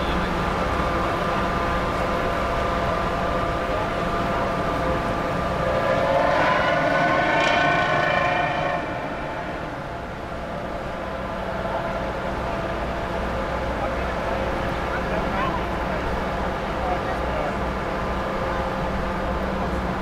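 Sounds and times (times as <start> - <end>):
ship engines droning: 0.0 - 20.0.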